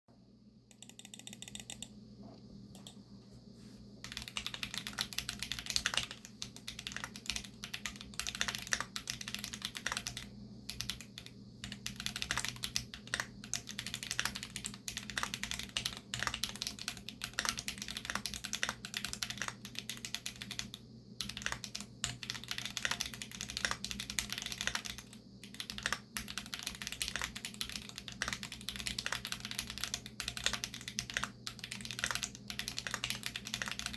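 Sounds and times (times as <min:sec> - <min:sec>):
low steady hum: 0:00.1 - 0:33.9
mechanical keyboard typing: 0:00.7 - 0:02.0, 0:04.0 - 0:33.9.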